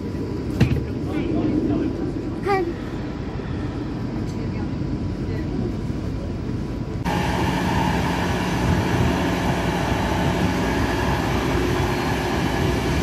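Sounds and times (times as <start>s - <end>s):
steady hum: 0.0s - 13.0s
train wheels rumbling on rail: 0.0s - 13.0s.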